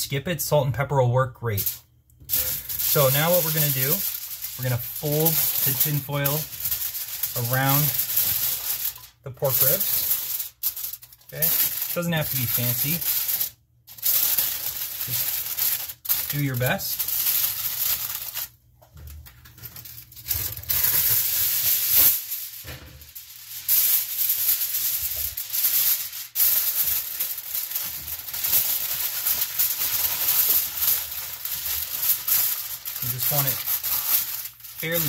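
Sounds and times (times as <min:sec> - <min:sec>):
aluminium foil crinkling: 0:01.6 - 0:35.0.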